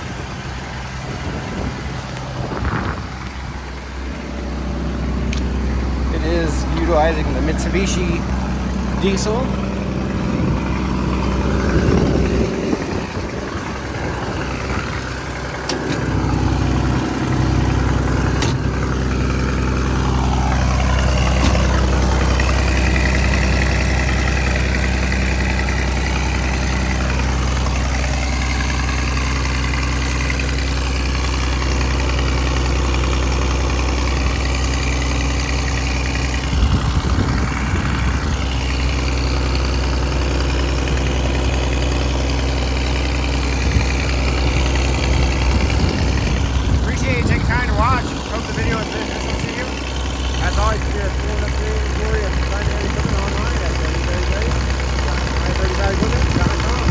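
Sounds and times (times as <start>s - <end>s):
excavator diesel engine idling: 0.0s - 56.9s.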